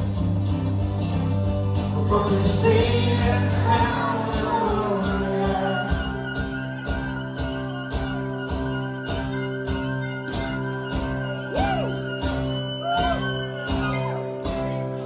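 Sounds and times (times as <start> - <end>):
acoustic band playing: 0.0 - 15.0
guitar strumming: 0.0 - 15.0.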